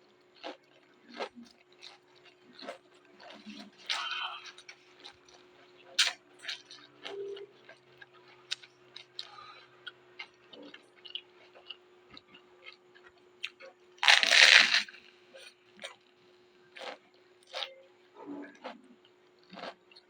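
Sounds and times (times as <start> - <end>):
chewing raw vegetables: 0.1 - 16.1, 16.7 - 20.0.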